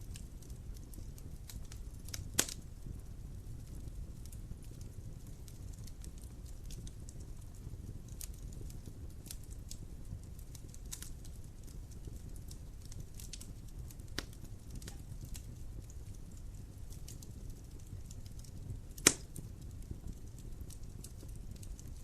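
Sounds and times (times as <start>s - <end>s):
fire crackles and pops: 0.0s - 22.0s
wood fire rumble: 0.0s - 22.0s.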